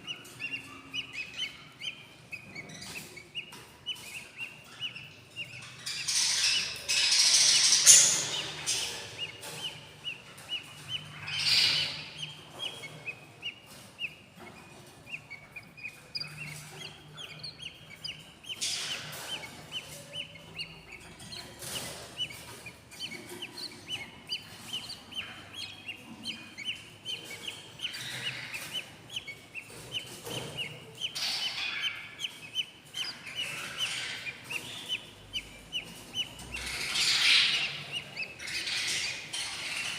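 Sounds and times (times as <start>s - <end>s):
budgie chicks chirping: 0.0s - 39.9s.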